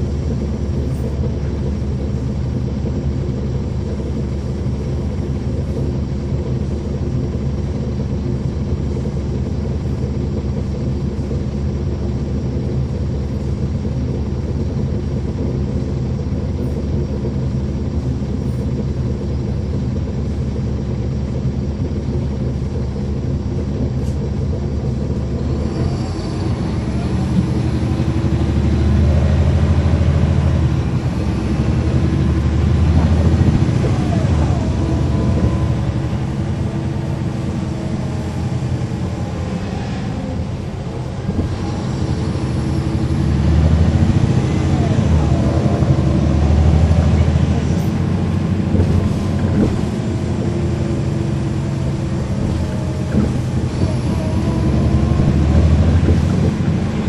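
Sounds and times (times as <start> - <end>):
bus diesel engine: 0.0 - 57.0
road noise: 0.0 - 57.0.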